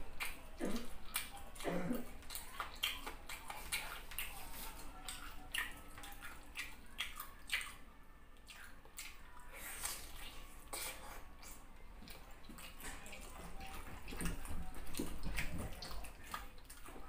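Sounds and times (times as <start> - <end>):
person chewing and lip-smacking: 0.0 - 17.0.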